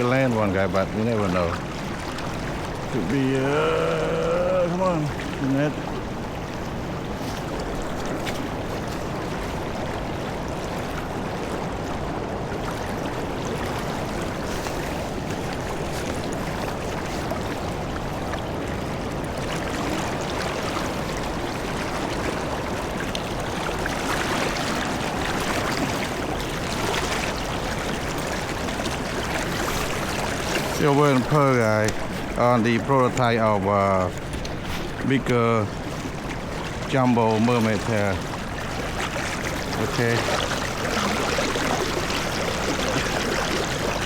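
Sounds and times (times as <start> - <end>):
creek water rushing: 0.0 - 44.0.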